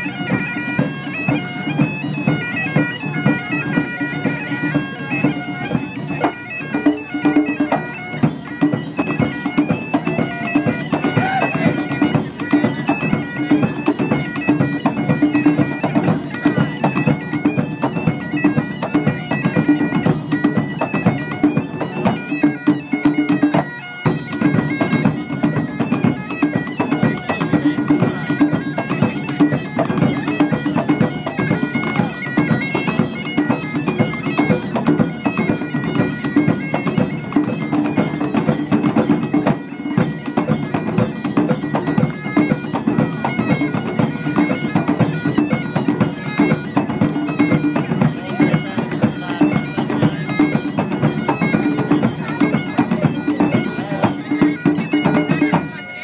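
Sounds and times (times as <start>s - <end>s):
large drums beating: 0.0s - 55.7s
bagpipes playing melody: 0.0s - 56.0s.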